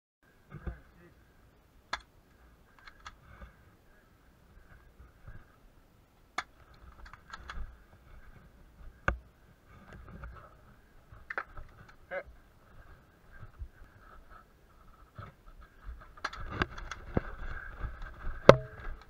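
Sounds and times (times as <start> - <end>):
rustling of movement: 0.3 - 19.0.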